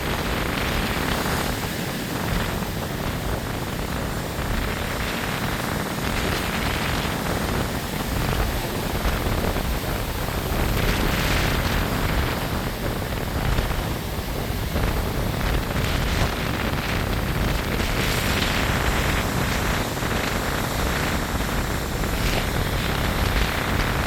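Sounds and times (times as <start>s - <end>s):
ocean surf rushing: 0.0s - 24.0s
wind buffeting microphone: 0.0s - 24.0s.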